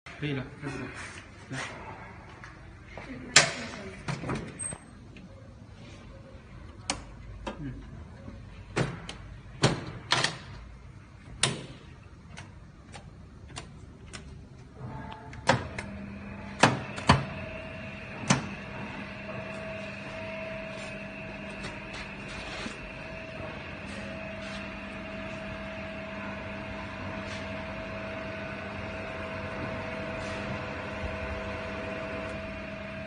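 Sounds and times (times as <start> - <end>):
machine hum with whine: 0.1 - 33.0.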